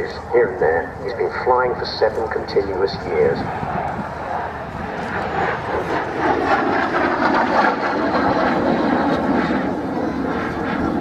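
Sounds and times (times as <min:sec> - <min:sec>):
jet engine passing by: 0:00.0 - 0:11.0.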